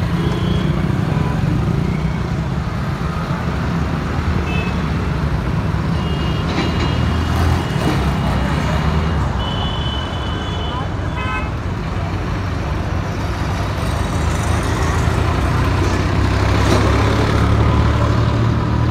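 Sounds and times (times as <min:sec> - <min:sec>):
road traffic rumble: 0:00.0 - 0:18.9.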